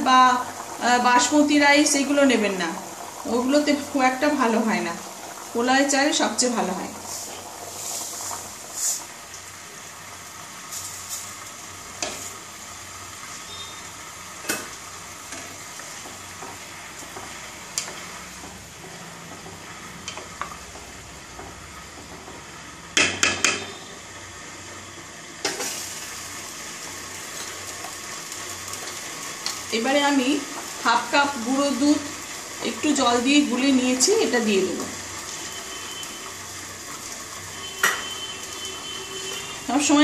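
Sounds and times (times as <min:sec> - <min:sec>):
stock boiling and bubbling: 0:00.0 - 0:40.0.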